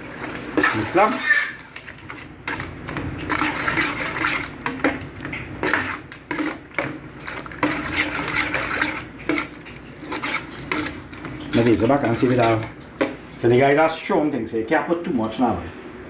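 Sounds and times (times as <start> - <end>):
wet sauce sounds: 0.0 - 14.3
spoon stirring pot: 0.1 - 13.5.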